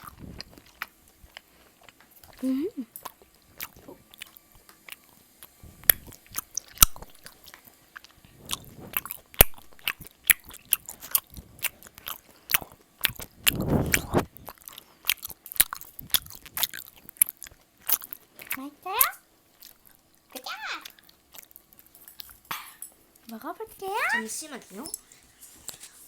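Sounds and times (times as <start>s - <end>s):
chewing and wet mouth clicks: 0.0s - 18.6s, 19.5s - 20.0s, 20.8s - 23.3s.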